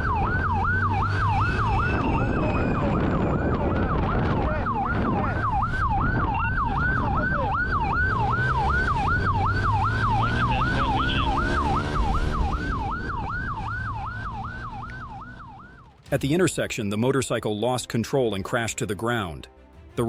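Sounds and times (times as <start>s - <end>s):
police siren yelping: 0.0s - 16.1s
engine and road noise: 0.0s - 18.0s.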